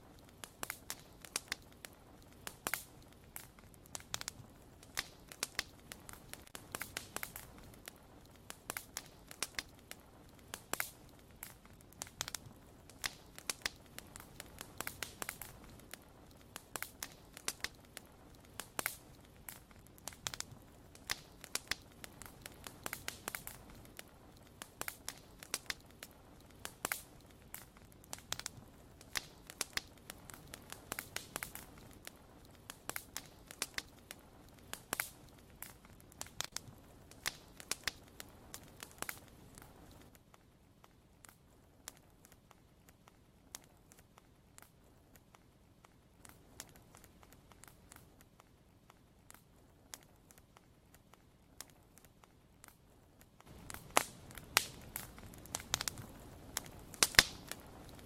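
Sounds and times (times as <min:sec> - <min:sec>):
low hiss: 0:00.0 - 0:58.0
wood fire crackling: 0:00.0 - 0:58.0.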